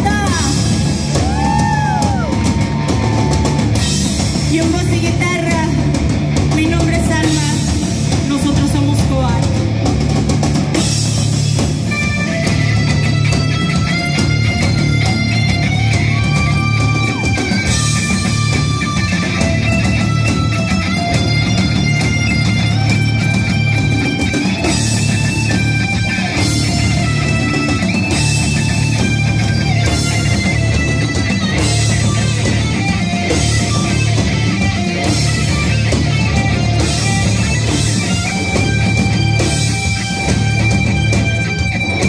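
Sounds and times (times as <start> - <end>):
bass and drums: 0.0 - 42.0
electric guitars melodic line: 0.0 - 42.0.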